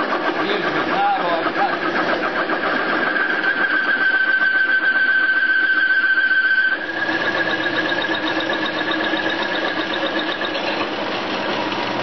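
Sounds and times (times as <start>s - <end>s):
metal lathe cutting whine: 0.0s - 12.0s.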